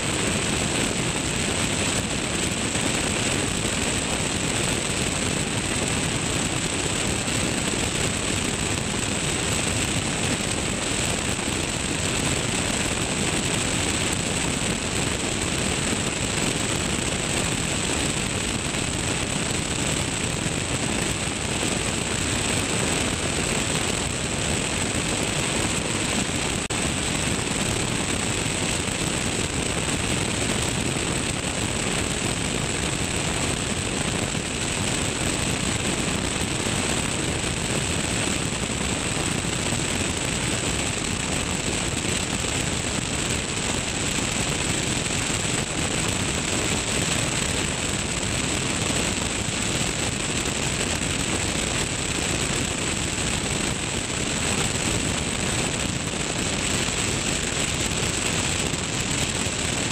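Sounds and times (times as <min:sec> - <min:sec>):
aircraft engine and propeller drone: 0:00.0 - 0:50.4
wind rushing over camera: 0:00.0 - 0:59.9.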